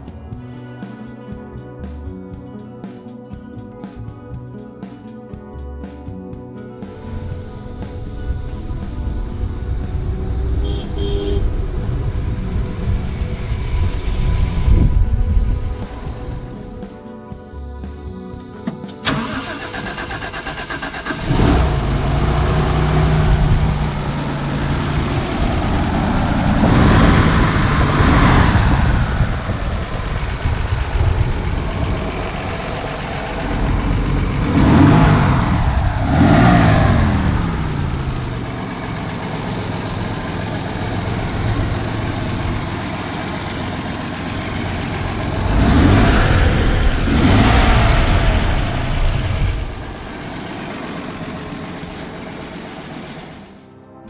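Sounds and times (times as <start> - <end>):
car engine revving: 7.0 - 16.2, 19.0 - 53.4.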